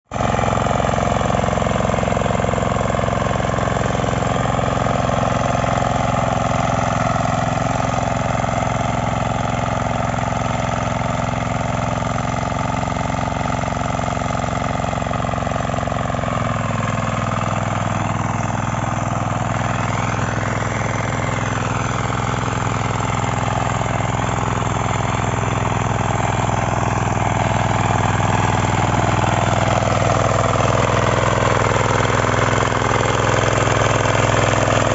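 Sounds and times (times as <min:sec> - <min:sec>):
power weeder engine running: 0:00.0 - 0:34.9.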